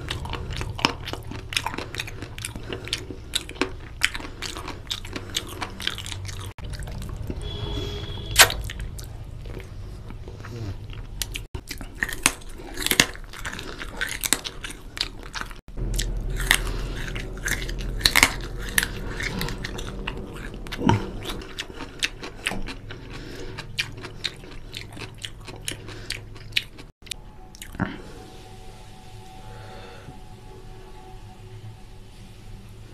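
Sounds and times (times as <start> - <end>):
chewing and biting food: 0.0 - 7.6, 8.4 - 28.0.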